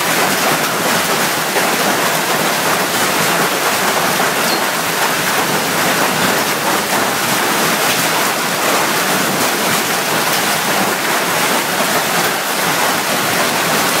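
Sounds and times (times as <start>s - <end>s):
hail splashing into water: 0.0s - 14.0s.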